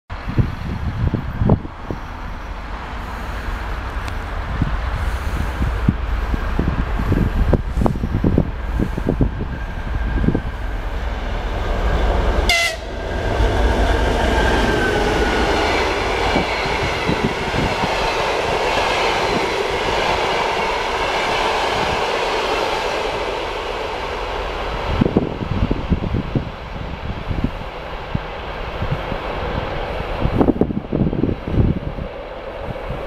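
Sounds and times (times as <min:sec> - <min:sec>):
diesel locomotive engine rumbling: 0:00.1 - 0:33.0
train coaches rushing and rattling: 0:00.2 - 0:33.0.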